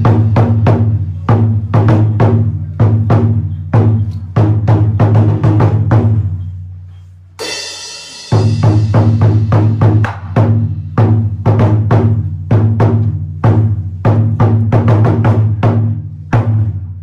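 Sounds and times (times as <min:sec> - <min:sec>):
deep ringing drum tone: 0:00.0 - 0:06.4, 0:08.3 - 0:16.7
drums beaten fast: 0:00.0 - 0:06.4, 0:07.4 - 0:17.0.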